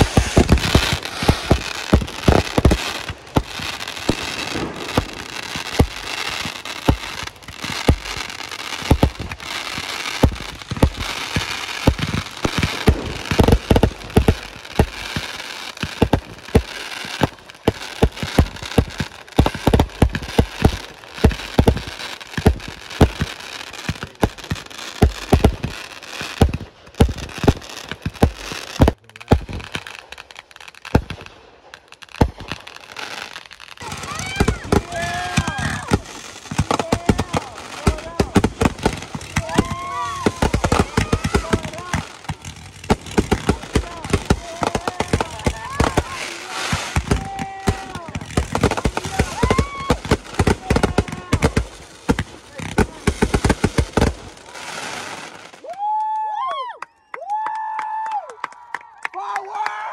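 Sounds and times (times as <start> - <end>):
firework bangs: 0.0 - 55.7
firework crackle: 0.0 - 56.0.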